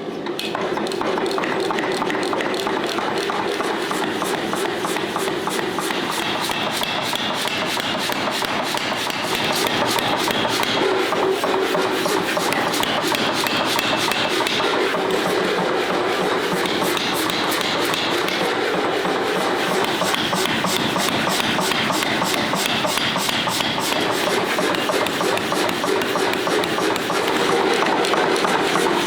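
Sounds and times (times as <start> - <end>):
abrasive tool grinding steel: 2.2 - 29.0.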